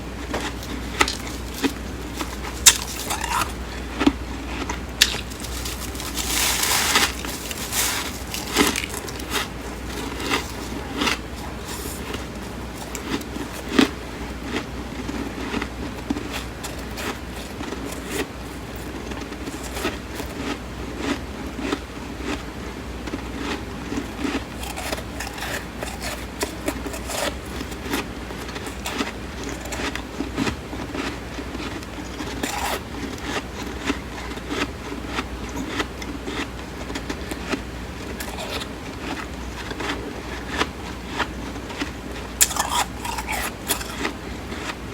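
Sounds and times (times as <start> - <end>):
chewing crunchy frost: 0.0 - 44.9.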